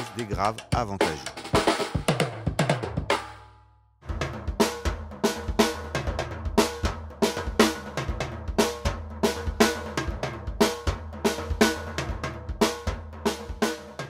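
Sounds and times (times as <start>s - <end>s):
drum kit groove: 0.0s - 3.4s, 4.0s - 14.0s.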